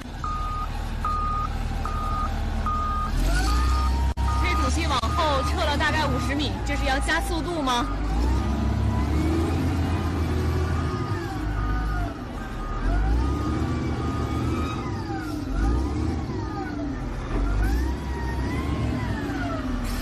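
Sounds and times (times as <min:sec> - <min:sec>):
low rumble of heavy engines: 0:00.0 - 0:20.0
emergency siren wailing: 0:00.2 - 0:19.8.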